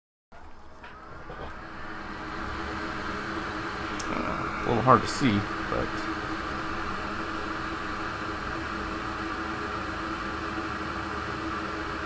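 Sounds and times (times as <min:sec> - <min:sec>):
mechanical hum with hiss: 0:00.4 - 0:12.0.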